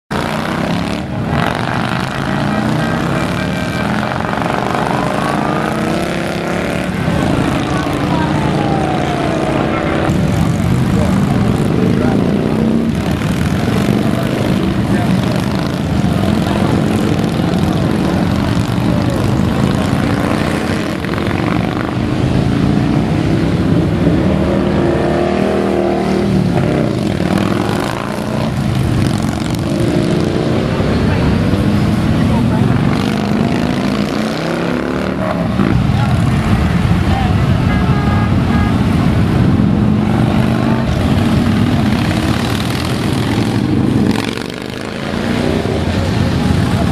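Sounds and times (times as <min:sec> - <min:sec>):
motorcycle engines rumbling: 0:00.0 - 0:46.9
motorcycle accelerating: 0:00.1 - 0:46.9.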